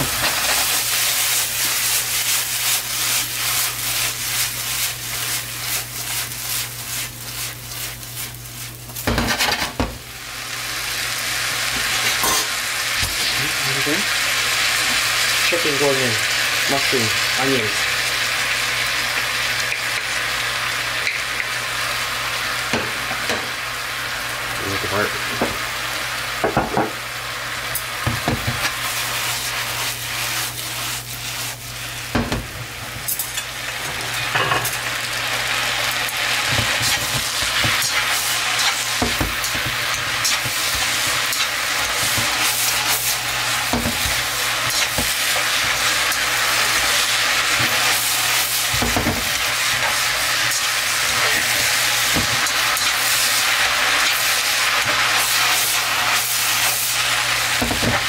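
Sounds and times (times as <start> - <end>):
noodles sizzling in a wok: 0.0 - 58.0.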